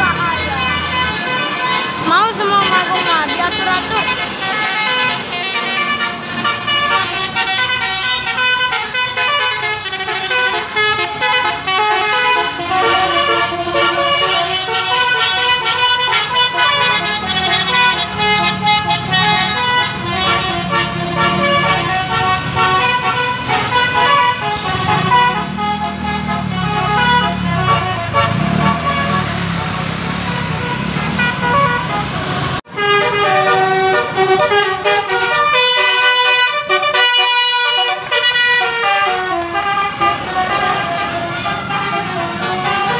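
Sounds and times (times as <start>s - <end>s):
multi-tone musical air horns: 0.2s - 42.9s.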